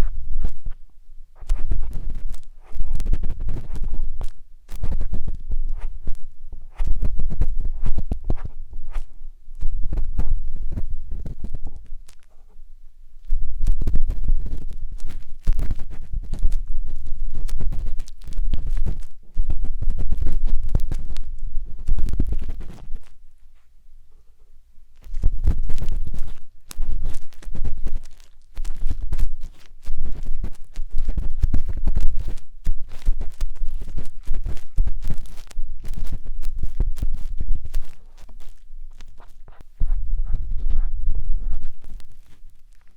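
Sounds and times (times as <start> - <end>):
tool scraping inside microphone ear: 1.4 - 12.4, 13.2 - 23.7, 25.0 - 42.9.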